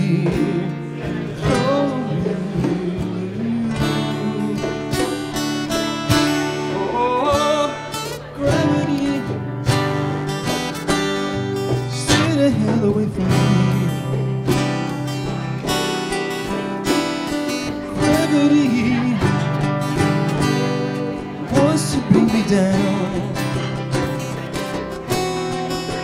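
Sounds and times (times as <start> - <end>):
man singing: 0.0 - 15.4, 16.5 - 26.0
guitars strummed: 0.0 - 26.0.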